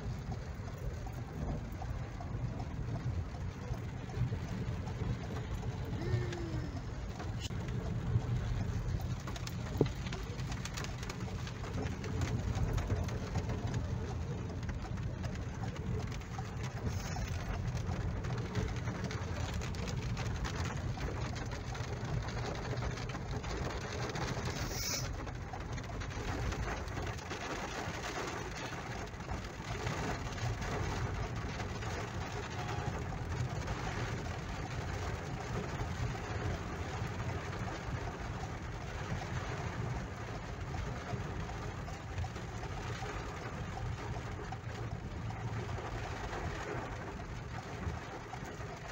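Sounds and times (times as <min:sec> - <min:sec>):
car driving on wet road: 0:00.0 - 0:48.9
rain and hail on windshield: 0:00.0 - 0:48.9.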